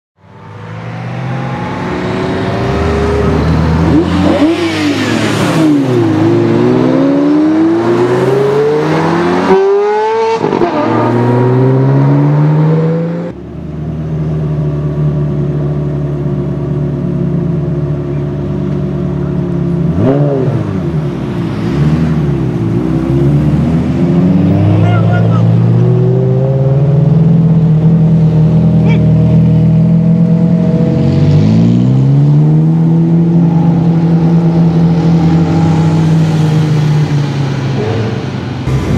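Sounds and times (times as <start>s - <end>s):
sports car engines accelerating: 0.2s - 38.9s.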